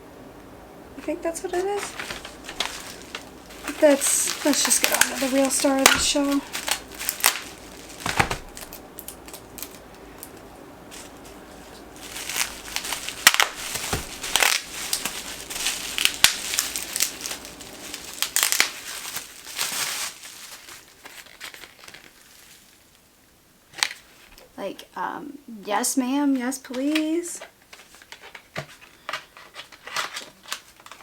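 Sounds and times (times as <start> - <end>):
paper packaging crinkling: 1.0 - 23.0, 23.7 - 24.4, 26.8 - 31.0.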